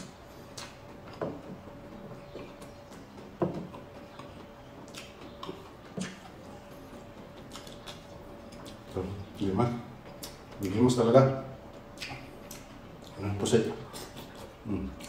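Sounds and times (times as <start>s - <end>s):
person chewing noodles: 0.0s - 9.0s, 10.0s - 10.6s, 11.9s - 15.0s
faint steady hum: 0.0s - 15.0s.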